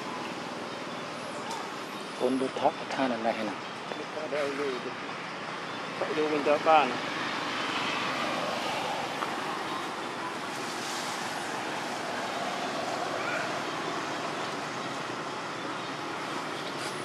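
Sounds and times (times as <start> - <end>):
steady outdoor rushing noise: 0.0 - 17.0.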